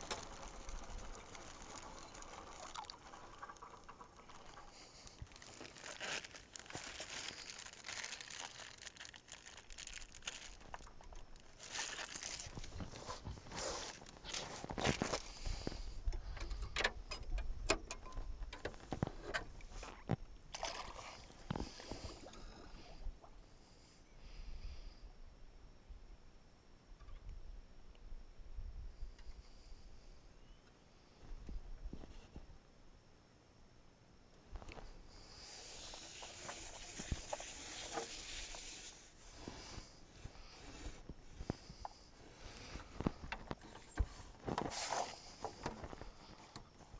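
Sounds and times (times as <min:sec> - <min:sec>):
soft hiss: 0:00.0 - 0:46.9.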